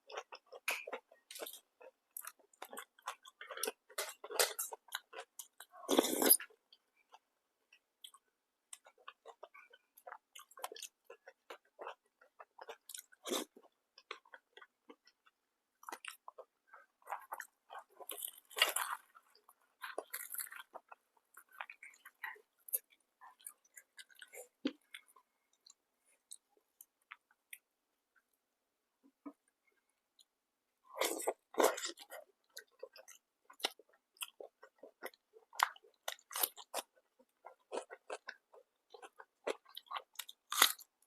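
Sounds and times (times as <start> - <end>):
person chewing food: 0.0 - 27.7, 31.0 - 41.0.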